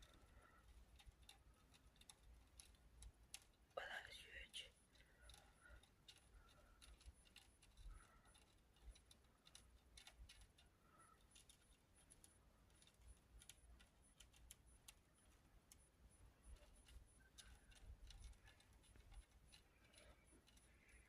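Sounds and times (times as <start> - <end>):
faint irregular clicks: 0.0 - 21.0
faint low hum: 0.0 - 21.0.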